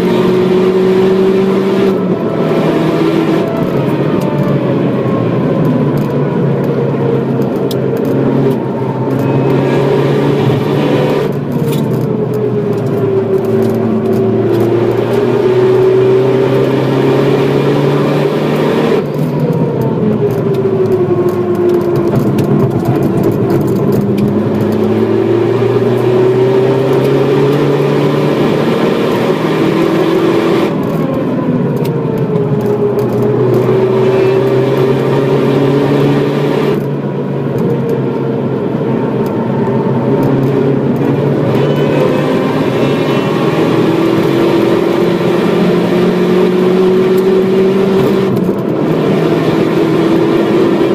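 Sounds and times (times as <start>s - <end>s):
car engine revving hard: 0.0s - 4.5s, 5.1s - 12.0s, 12.7s - 19.4s, 21.6s - 31.7s, 32.6s - 36.9s, 38.5s - 50.9s
gear shifts: 0.0s - 50.9s
road and wind noise: 0.0s - 50.9s.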